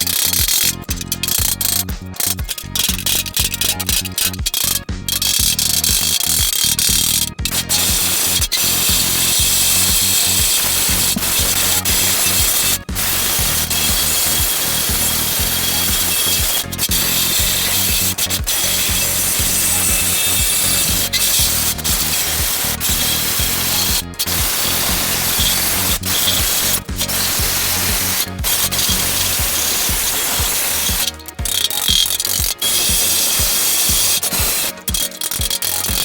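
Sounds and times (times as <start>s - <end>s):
power tool grinding sheet metal: 0.0s - 36.0s.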